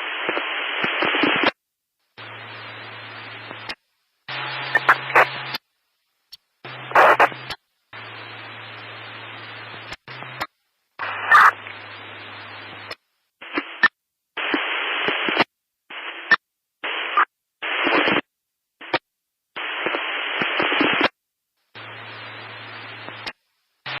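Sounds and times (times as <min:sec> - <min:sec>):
static hiss bursts: 0:00.0 - 0:24.0.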